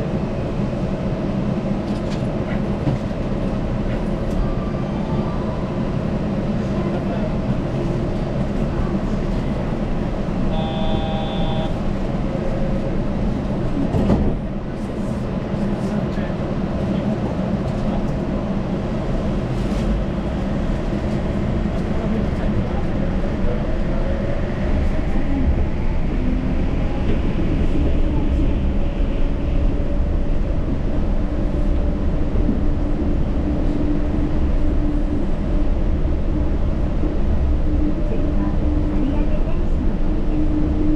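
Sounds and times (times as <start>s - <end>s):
train running rumble: 0.0s - 40.9s.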